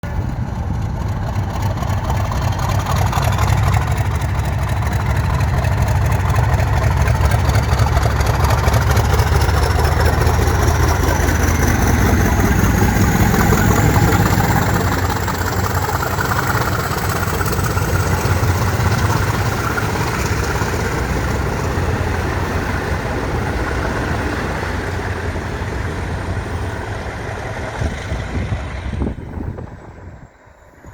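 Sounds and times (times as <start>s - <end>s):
diesel locomotive engine rumbling: 0.0s - 30.9s.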